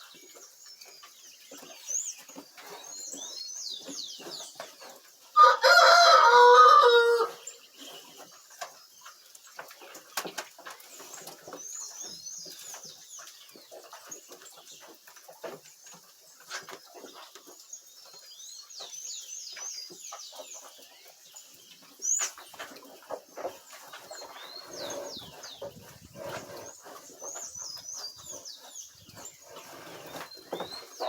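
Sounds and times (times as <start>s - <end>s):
small birds chirping: 0.0s - 5.8s, 7.2s - 31.0s.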